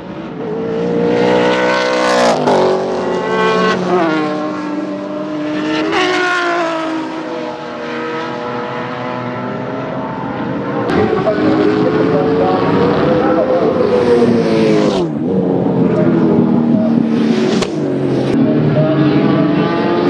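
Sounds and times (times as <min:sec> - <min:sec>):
race car engines at full throttle: 0:00.0 - 0:20.0.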